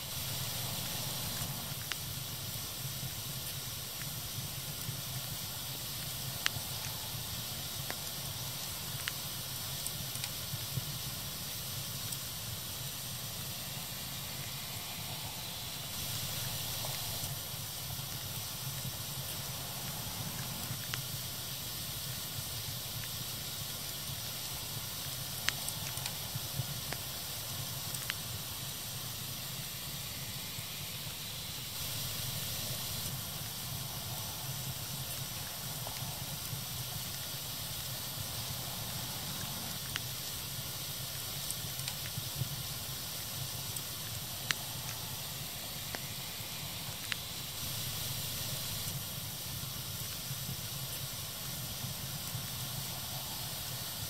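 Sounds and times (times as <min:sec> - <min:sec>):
fire crackling and popping: 0:00.0 - 0:54.0
fire hissing: 0:00.0 - 0:54.0.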